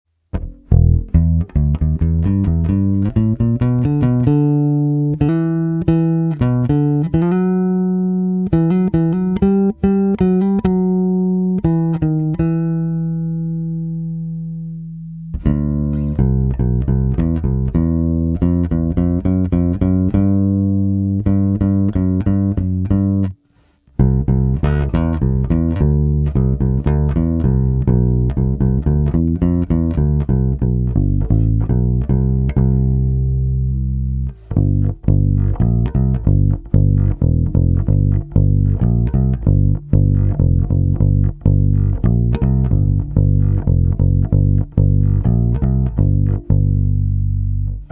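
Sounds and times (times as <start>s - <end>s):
electric bass notes: 0.2s - 47.9s.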